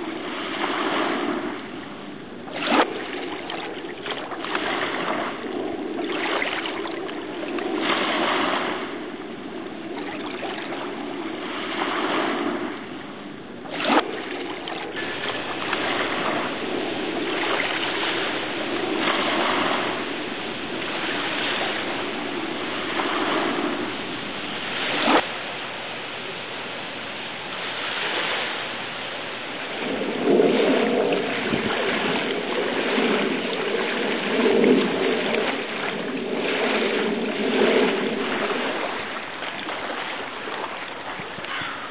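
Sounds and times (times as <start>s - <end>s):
rushing water: 0.0s - 41.9s
wind noise: 0.0s - 41.9s.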